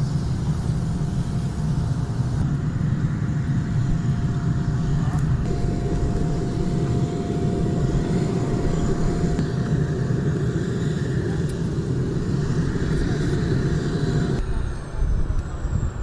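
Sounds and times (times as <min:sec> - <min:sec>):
faint steady whine: 0:00.0 - 0:16.0
jet engines rumbling: 0:00.0 - 0:16.0.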